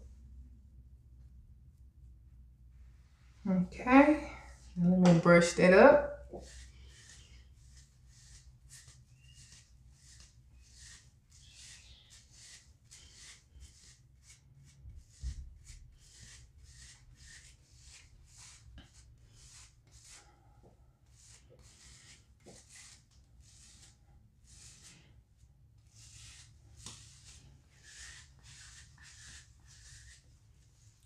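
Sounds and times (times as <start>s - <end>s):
hairbrush swishing through hair: 4.4s - 20.3s, 21.1s - 25.2s, 25.8s - 31.0s.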